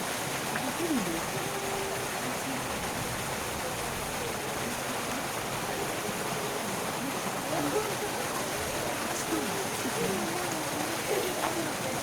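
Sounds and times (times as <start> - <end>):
faint distant voices: 0.1 - 12.0.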